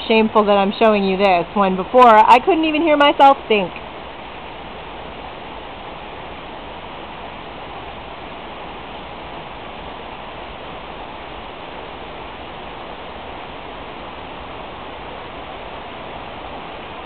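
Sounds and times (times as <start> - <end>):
rain falling on foliage: 0.0 - 17.0.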